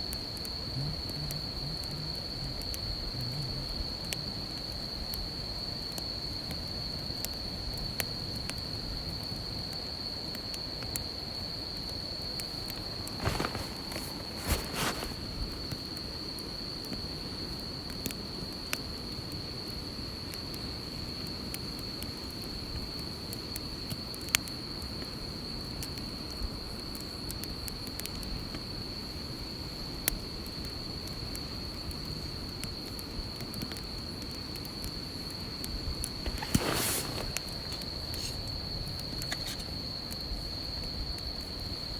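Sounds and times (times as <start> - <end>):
insects trilling: 0.0 - 41.9
campfire popping and crackling: 0.1 - 41.9.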